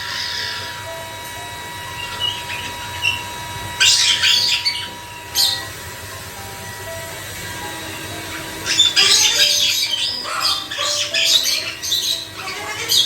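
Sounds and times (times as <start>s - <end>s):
parrot harsh screech: 0.0s - 5.8s, 8.2s - 13.0s
parrot squawk: 0.0s - 5.8s, 7.6s - 13.0s
parrot chirps: 0.0s - 13.0s.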